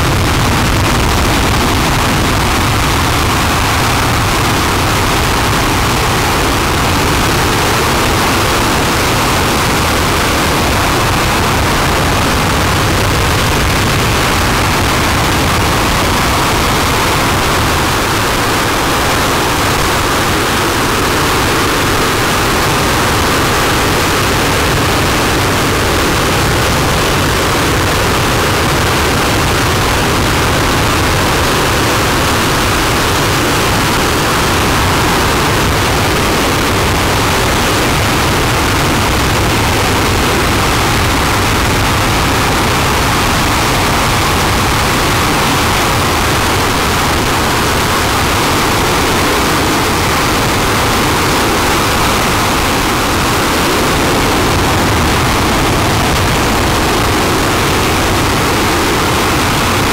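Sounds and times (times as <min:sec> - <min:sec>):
rocket engine roaring: 0:00.0 - 0:59.9.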